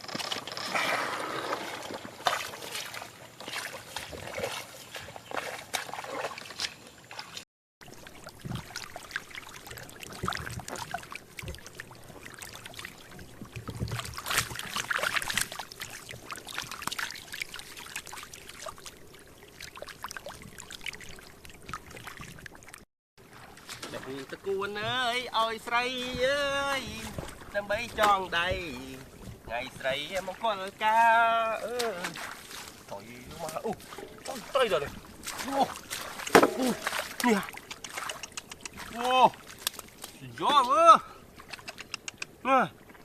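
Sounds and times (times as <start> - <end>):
water splashing and sloshing: 0.0 - 43.0.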